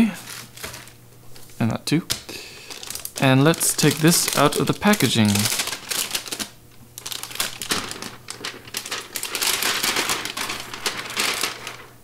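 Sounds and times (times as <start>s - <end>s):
plastic wrapping crinkling: 0.2s - 1.0s, 2.1s - 12.0s.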